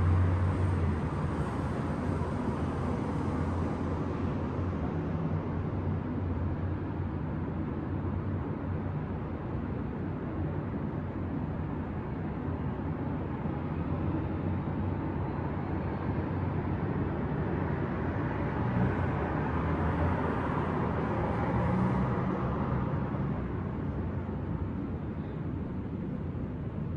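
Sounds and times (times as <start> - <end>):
city traffic rumble: 0.0 - 26.9.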